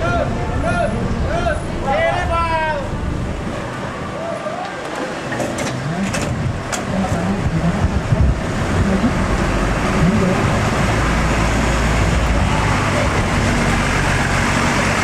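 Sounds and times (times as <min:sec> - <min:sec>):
bus engines low rumble: 0:00.0 - 0:15.0
rushing traffic noise: 0:00.0 - 0:15.0.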